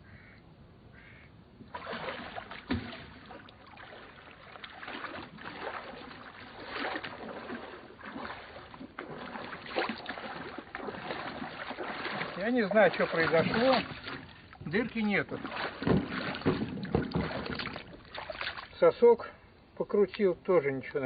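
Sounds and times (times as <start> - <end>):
water sloshing and splashing: 1.6 - 19.0.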